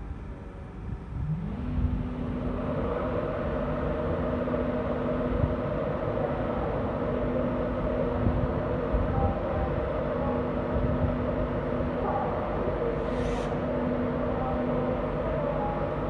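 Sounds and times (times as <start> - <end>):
electric locomotive hum: 0.0 - 16.0
steady whir: 0.0 - 16.0.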